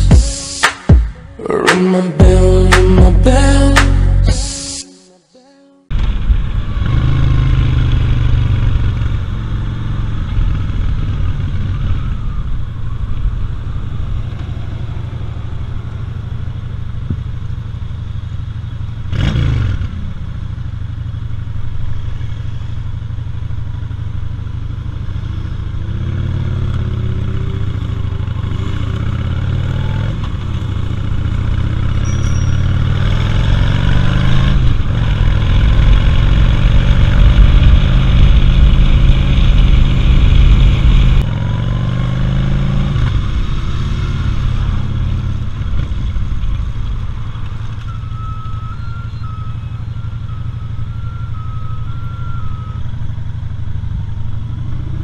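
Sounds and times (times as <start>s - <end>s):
motorcycle engine accelerating: 5.9s - 55.0s.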